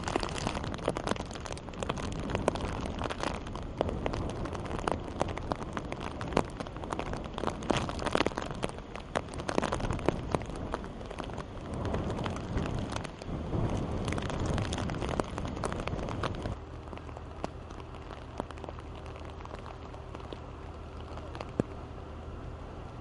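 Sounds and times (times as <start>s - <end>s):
low rumble: 0.0s - 23.0s
rain falling: 0.0s - 23.0s.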